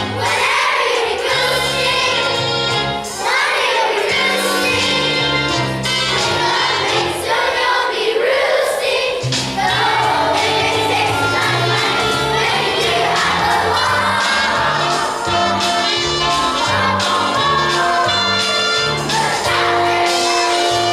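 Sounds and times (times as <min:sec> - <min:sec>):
instrumental accompaniment: 0:00.0 - 0:07.4, 0:09.2 - 0:20.9
children's chorus singing: 0:00.0 - 0:20.9.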